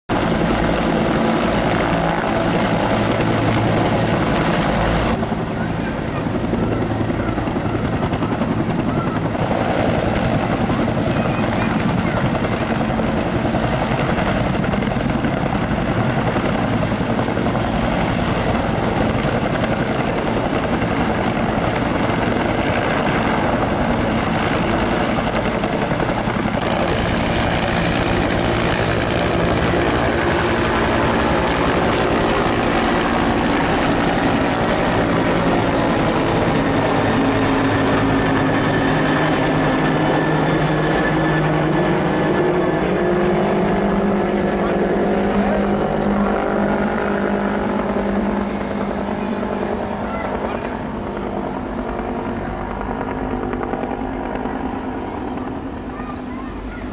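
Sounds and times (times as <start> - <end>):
helicopter rotor chopping: 0.1 - 56.9.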